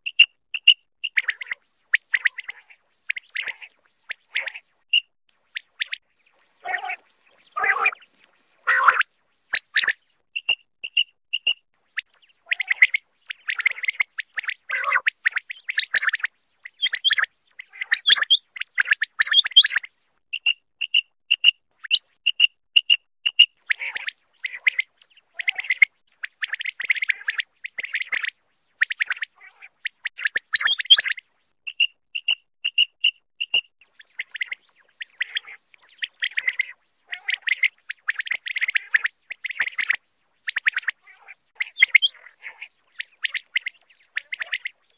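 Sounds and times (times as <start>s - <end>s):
quail calling: 0.1s - 19.8s, 20.4s - 44.9s.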